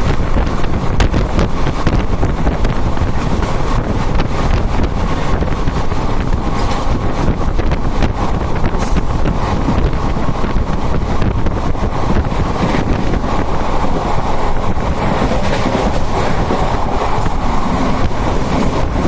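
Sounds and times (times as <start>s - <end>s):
train wheels rumbling on track: 0.0s - 19.0s
wind buffeting microphone: 0.0s - 19.0s.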